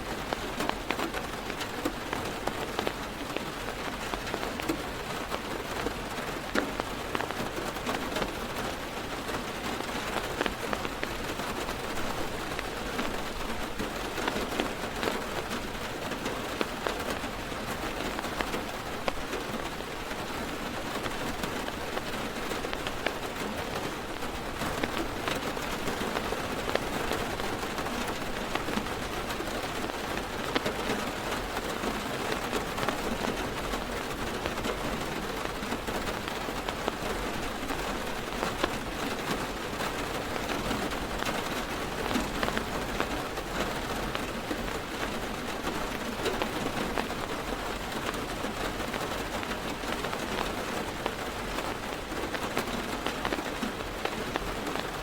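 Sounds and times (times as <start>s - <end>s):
heavy rain drumming on car roof: 0.0s - 55.0s.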